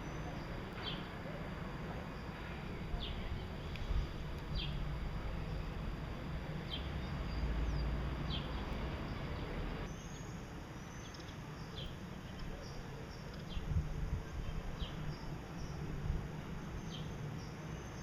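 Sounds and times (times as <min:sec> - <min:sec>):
steady low rumble: 0:00.0 - 0:09.9, 0:12.6 - 0:17.2.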